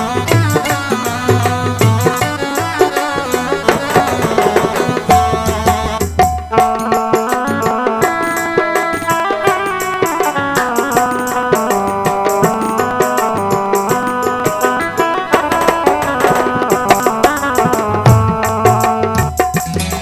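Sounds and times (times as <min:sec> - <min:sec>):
melodic instrument playing held notes: 0:00.0 - 0:20.0
quick tabla drumming: 0:00.0 - 0:20.0.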